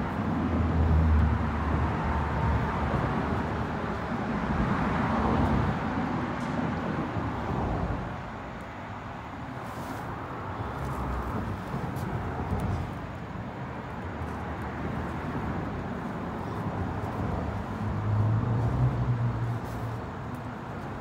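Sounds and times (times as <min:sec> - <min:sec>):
traffic rumbling on bridge deck: 0:00.0 - 0:21.0.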